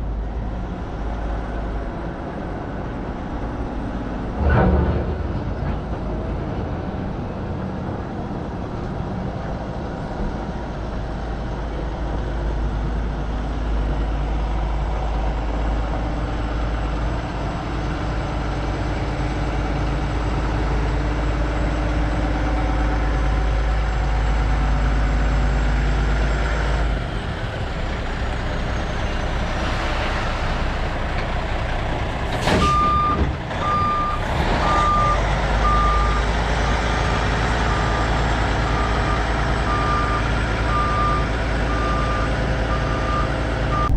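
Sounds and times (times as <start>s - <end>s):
diesel dump truck rumble: 0.0s - 43.9s.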